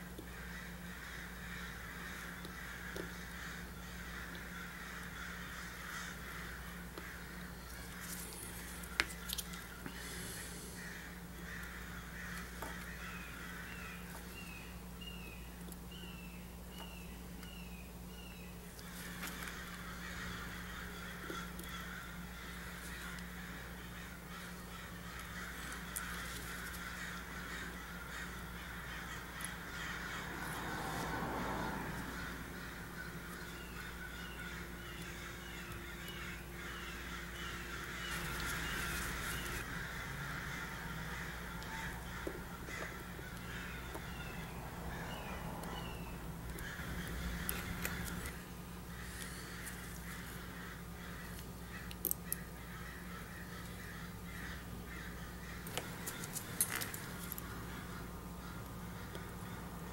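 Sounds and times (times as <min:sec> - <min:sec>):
steady low hum: 0:00.0 - 0:59.9
birds chirping: 0:00.1 - 0:59.9.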